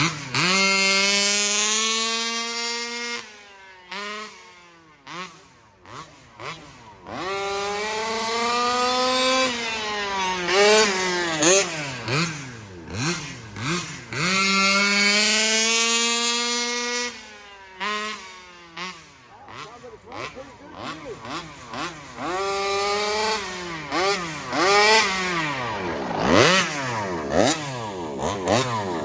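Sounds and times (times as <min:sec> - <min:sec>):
two-stroke engine revving: 0:00.0 - 0:29.0.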